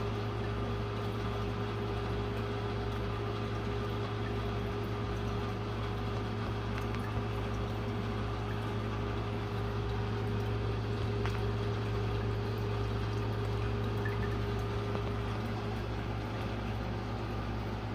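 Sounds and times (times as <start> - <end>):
aquarium filter pump humming: 0.0 - 17.9.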